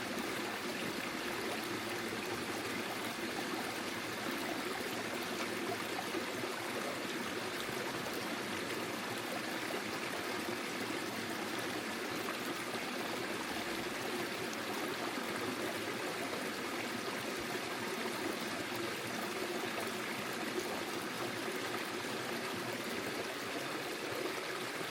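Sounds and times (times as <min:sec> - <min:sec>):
stream babbling over stones: 0:00.0 - 0:24.9.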